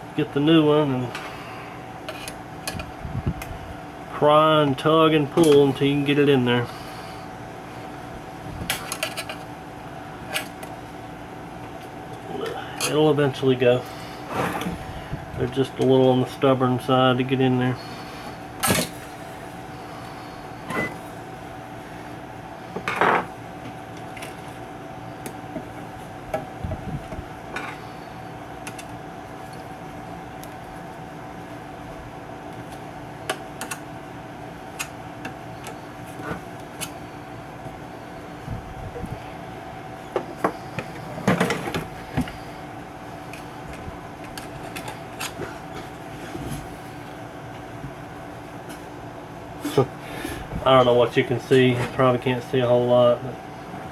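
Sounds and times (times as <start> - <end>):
steady hum: 0.0 - 53.9.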